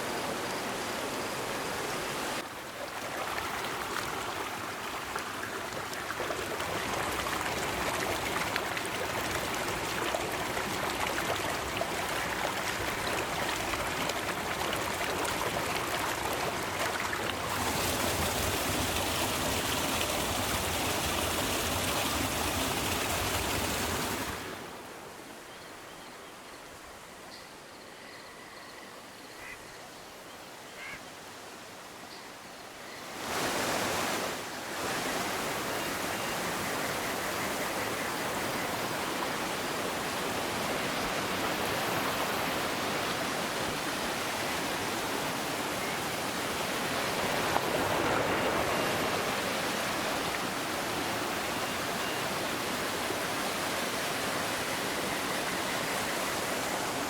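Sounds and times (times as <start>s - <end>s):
river water rushing: 0.0s - 25.2s, 33.1s - 57.0s.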